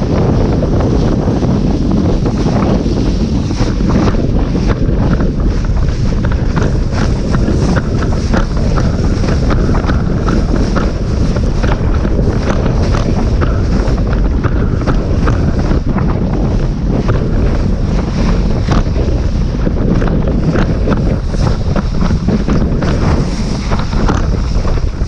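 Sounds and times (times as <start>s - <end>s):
rushing water: 0.0s - 25.0s
wind buffeting microphone: 0.0s - 25.0s
hull slapping on chop: 2.1s - 25.0s.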